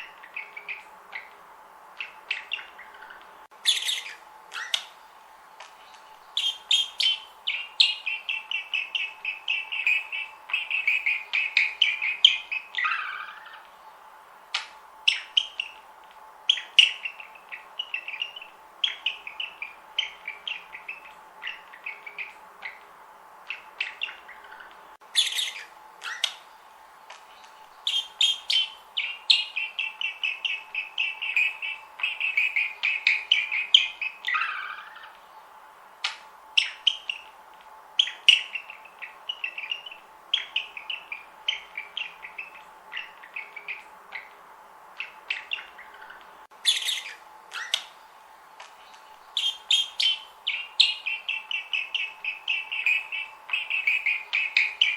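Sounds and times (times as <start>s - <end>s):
budgerigars chirping and warbling: 0.0s - 1.4s, 2.0s - 5.0s, 5.8s - 13.9s, 14.5s - 15.9s, 16.5s - 26.6s, 27.4s - 35.3s, 36.0s - 37.4s, 38.0s - 48.0s, 48.8s - 54.9s
faint steady hum: 0.0s - 54.9s.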